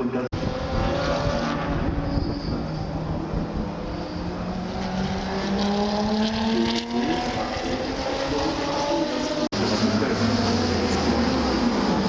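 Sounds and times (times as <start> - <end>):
racing car engines accelerating: 0.0 - 12.0.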